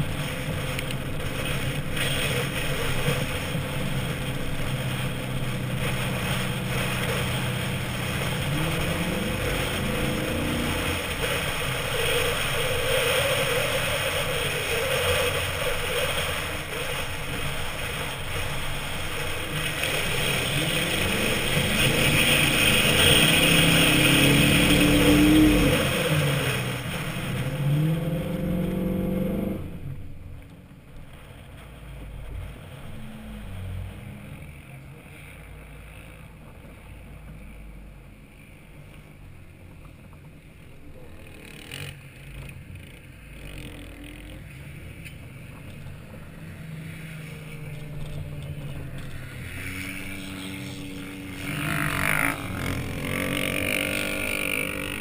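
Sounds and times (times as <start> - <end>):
truck engine revving: 0.0 - 30.1, 41.0 - 55.0.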